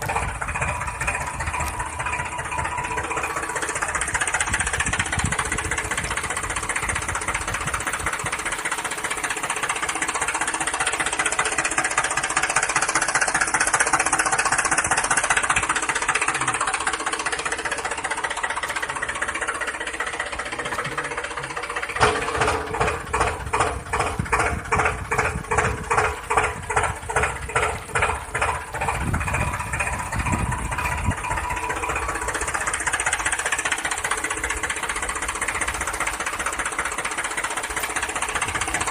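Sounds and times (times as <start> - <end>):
motor running: 0.0 - 38.9.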